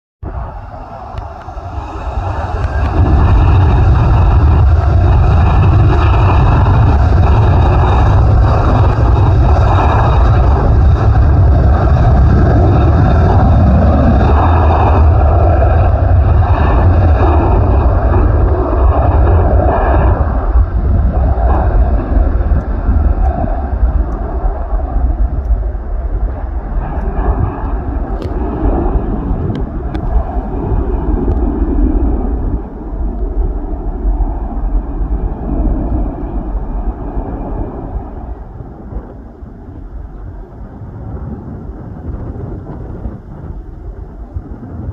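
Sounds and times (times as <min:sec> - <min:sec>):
jet engines rumbling: 0:00.2 - 0:44.9.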